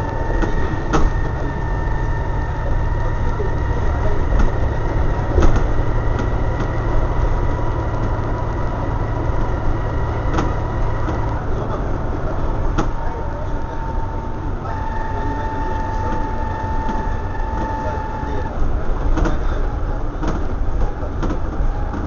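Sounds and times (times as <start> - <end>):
body panels rattling: 0.0 - 22.0
bus diesel engine rumbling: 0.0 - 22.0
high drivetrain whine: 0.0 - 22.0.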